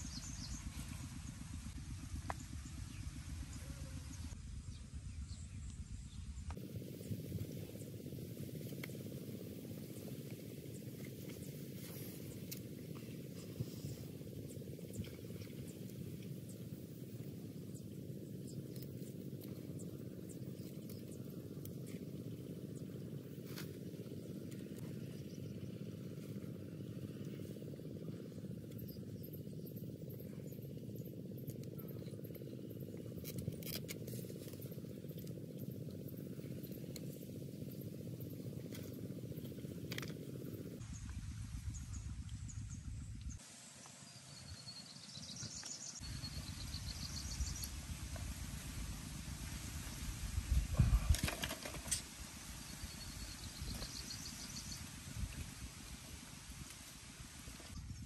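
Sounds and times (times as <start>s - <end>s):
low outdoor rumble: 0.0s - 43.4s, 44.0s - 58.0s.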